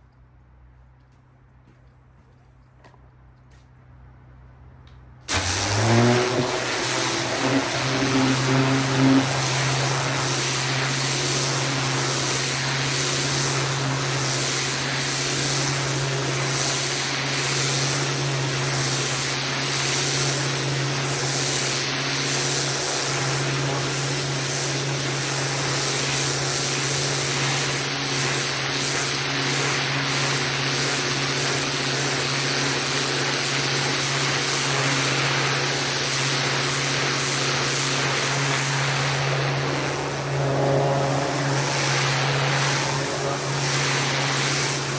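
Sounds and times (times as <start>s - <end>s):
pressure washer running: 5.3s - 44.9s.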